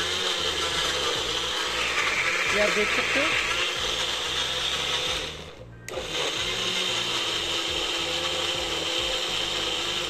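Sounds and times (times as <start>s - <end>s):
blender motor running: 0.0s - 10.0s.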